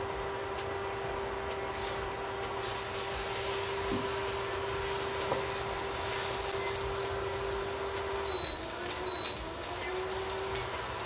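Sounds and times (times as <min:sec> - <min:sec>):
cooker humming: 0:00.0 - 0:11.0
cooktop beeping: 0:00.0 - 0:11.0.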